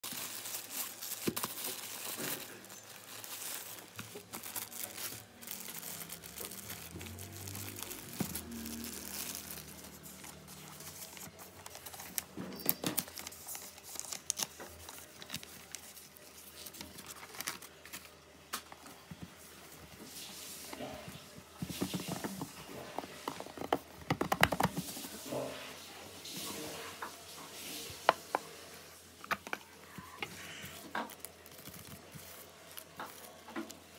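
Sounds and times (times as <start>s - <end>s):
wrapping paper crinkling and tearing: 0.0s - 33.9s.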